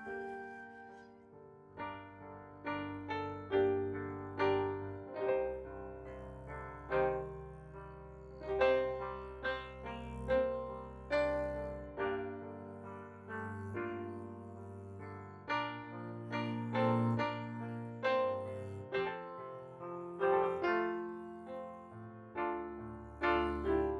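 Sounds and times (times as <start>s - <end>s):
slow gentle piano music: 0.0s - 23.9s.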